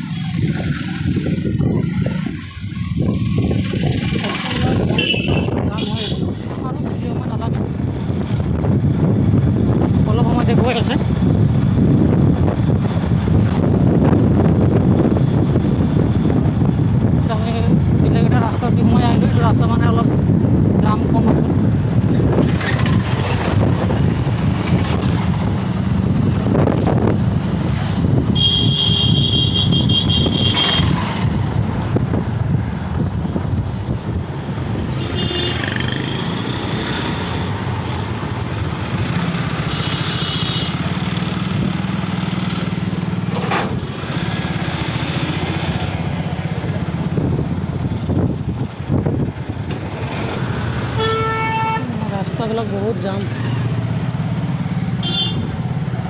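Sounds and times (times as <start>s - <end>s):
engine and traffic rumble: 0.0s - 56.0s.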